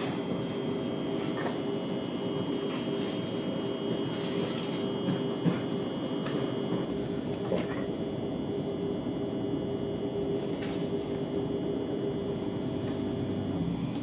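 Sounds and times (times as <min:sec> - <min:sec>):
electric train rumbling: 0:00.0 - 0:14.0
humming tones: 0:00.0 - 0:14.0.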